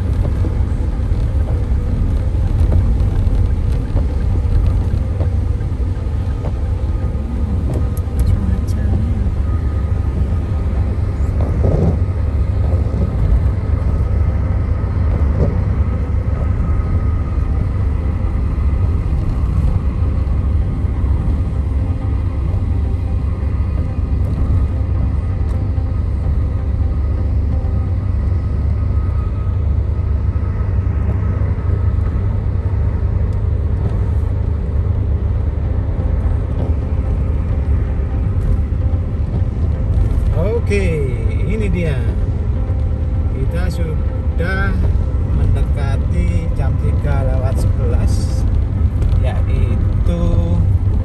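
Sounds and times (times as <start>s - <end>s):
road and engine rumble in car: 0.0s - 51.0s.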